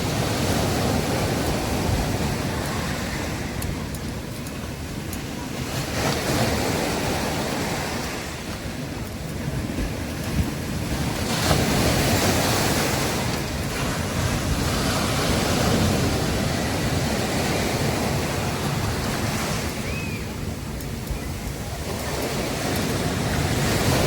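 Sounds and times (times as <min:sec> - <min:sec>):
surf washing on a beach: 0:00.0 - 0:24.0
wave breaking: 0:00.0 - 0:24.0
wind rumble on microphone: 0:00.0 - 0:24.0.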